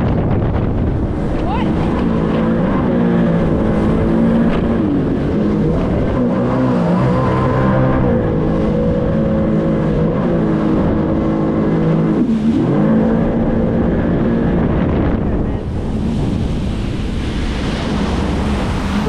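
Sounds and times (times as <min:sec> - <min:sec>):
rush of water and wind: 0:00.0 - 0:19.0
jet ski engine revving: 0:00.1 - 0:19.0.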